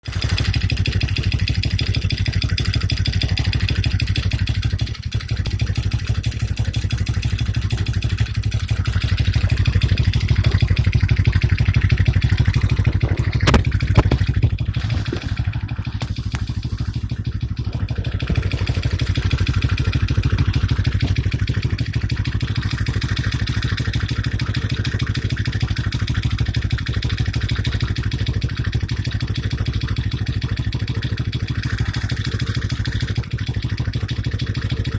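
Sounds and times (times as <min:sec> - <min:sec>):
small engine running steadily: 0:00.0 - 0:34.9.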